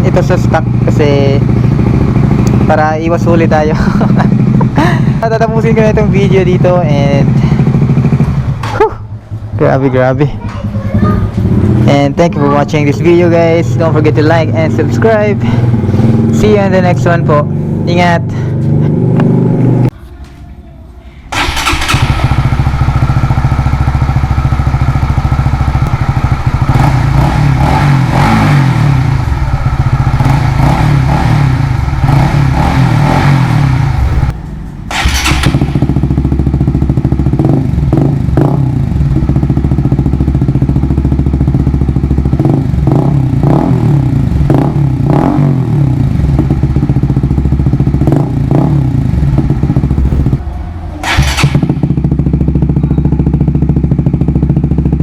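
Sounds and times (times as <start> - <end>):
motorcycle engine idling and revving: 0.0 - 20.0, 21.3 - 55.0.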